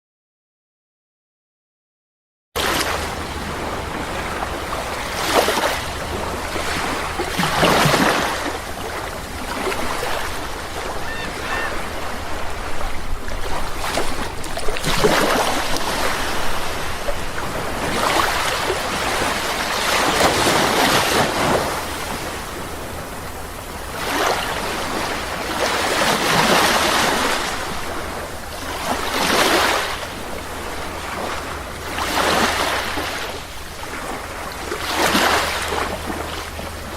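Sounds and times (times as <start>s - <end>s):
sea waves breaking on beach: 2.6s - 36.9s.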